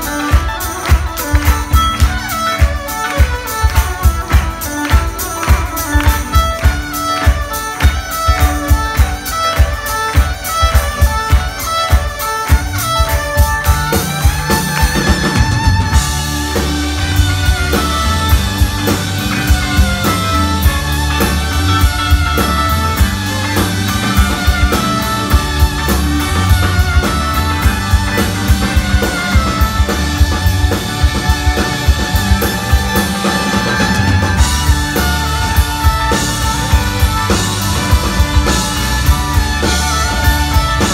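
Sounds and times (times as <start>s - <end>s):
bass guitar: 0.0s - 40.9s
drum kit: 0.0s - 40.9s
keyboard: 0.0s - 40.9s
violin: 0.0s - 40.9s.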